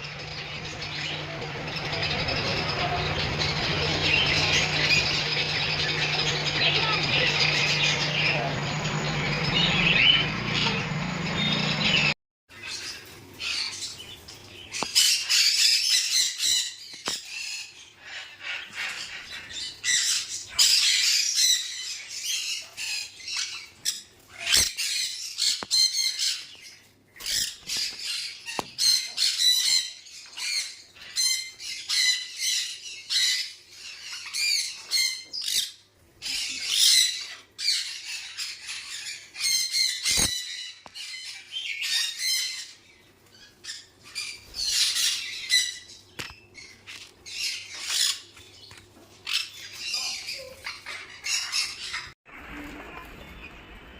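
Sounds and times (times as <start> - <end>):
parrots chattering and squawking: 0.0 - 53.5.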